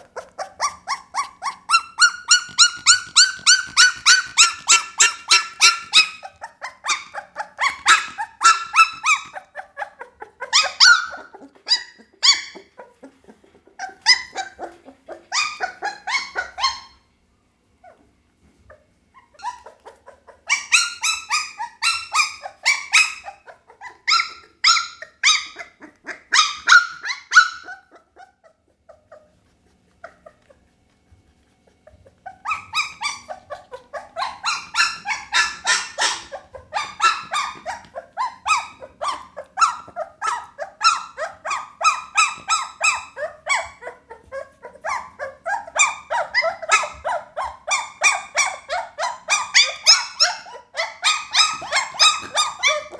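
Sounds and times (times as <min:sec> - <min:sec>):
puppies yipping and squealing: 0:00.0 - 0:17.1, 0:17.8 - 0:52.9.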